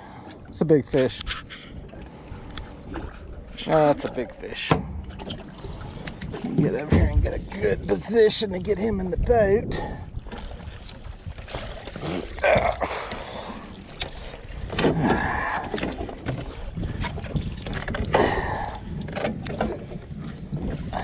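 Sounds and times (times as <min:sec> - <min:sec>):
water splashing and sloshing: 0:00.0 - 0:21.0
wind rumble on microphone: 0:01.1 - 0:12.8, 0:14.4 - 0:21.0.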